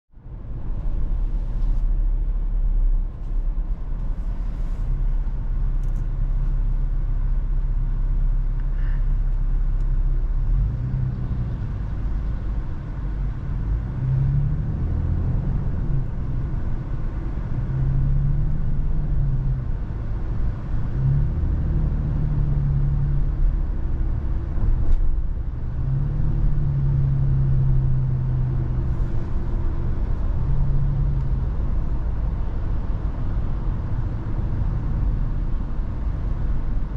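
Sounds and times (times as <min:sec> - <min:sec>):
car engine rumbling: 0:00.1 - 0:36.9
road noise: 0:00.1 - 0:36.9.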